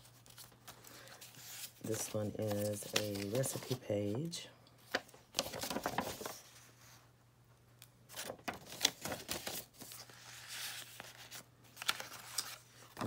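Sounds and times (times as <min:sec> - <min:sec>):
paper pages rustling: 0:00.0 - 0:07.0, 0:08.1 - 0:13.0.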